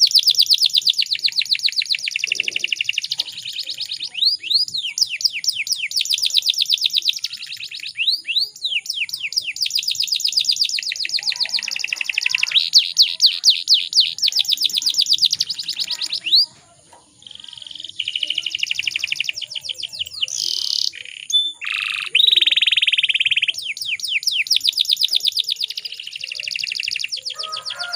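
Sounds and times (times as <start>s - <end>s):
canary singing in trills: 0.0s - 27.9s.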